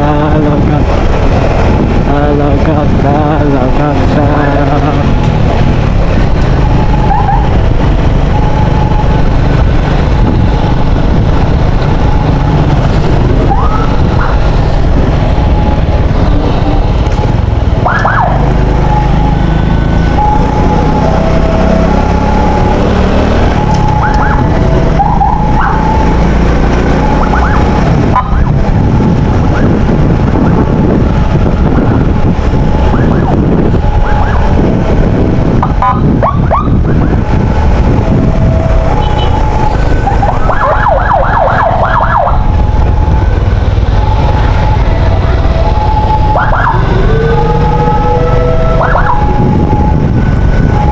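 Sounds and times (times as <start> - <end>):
engine road and wind rumble: 0.0 - 50.9
ambulance siren: 3.1 - 50.9.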